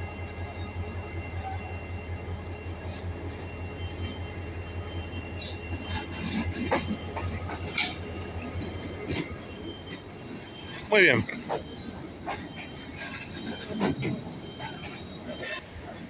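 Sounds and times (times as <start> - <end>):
high whining tones: 0.0 - 16.0
metallic wheel squeals: 0.0 - 16.0
train low hum: 0.0 - 16.0.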